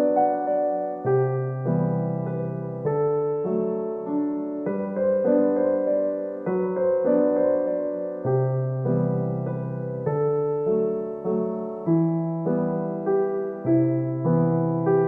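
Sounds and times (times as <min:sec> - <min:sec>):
soft electric piano music: 0:00.0 - 0:15.0.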